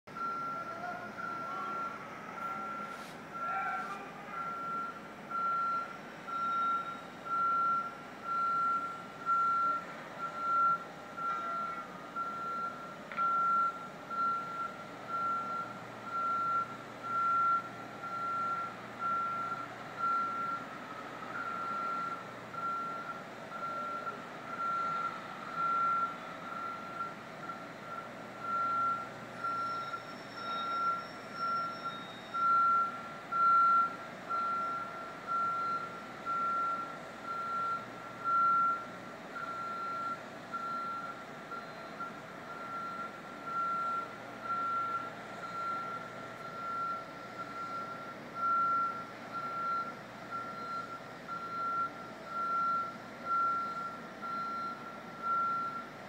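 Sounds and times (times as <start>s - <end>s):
motion alarm beeping: 0.1s - 3.6s, 4.4s - 20.6s, 21.4s - 55.9s.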